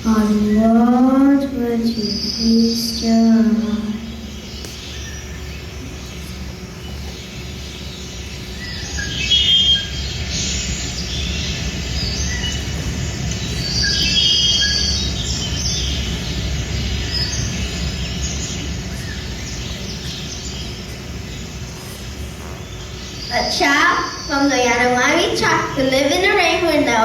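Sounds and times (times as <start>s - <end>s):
birds chirping and calling: 0.0s - 27.0s
steady low hum: 0.0s - 27.0s.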